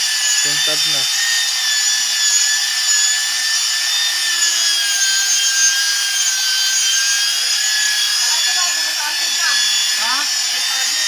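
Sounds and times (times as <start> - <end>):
electric sander on tabletop: 0.0 - 11.0.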